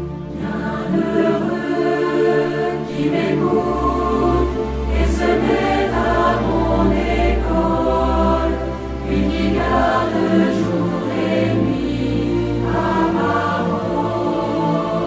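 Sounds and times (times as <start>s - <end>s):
choir singing worship song: 0.0s - 15.0s.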